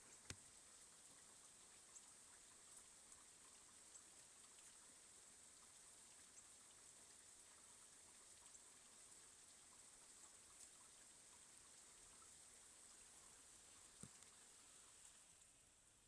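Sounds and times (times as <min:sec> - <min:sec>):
faint rain: 0:00.0 - 0:16.0.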